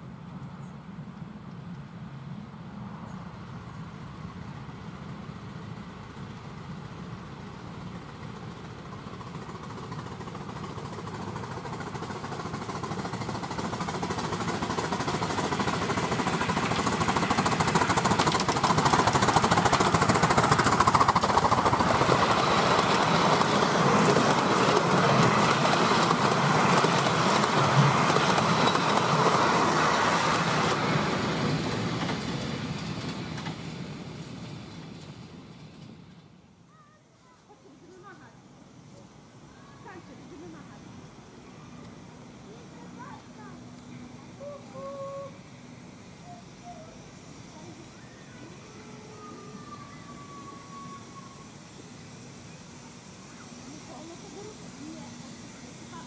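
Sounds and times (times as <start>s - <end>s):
miniature train running past: 0.0s - 56.0s.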